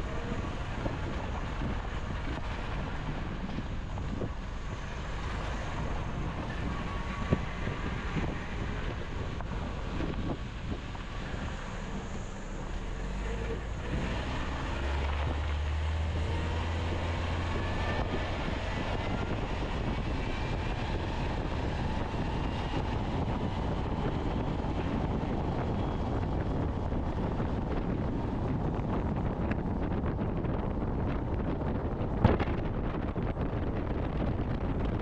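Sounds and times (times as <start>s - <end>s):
aircraft engine droning: 0.0s - 35.0s
wind buffeting microphone: 0.0s - 35.0s.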